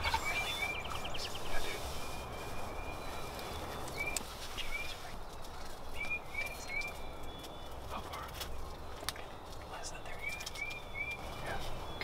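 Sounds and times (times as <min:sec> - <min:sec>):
low rumble of wind: 0:00.0 - 0:12.0
small bird chirping: 0:00.0 - 0:12.0.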